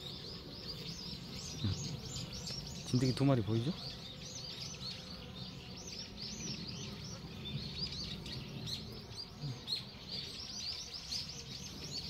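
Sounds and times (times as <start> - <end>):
honeybee colony humming: 0.0 - 12.0
many birds chirping: 0.0 - 12.0.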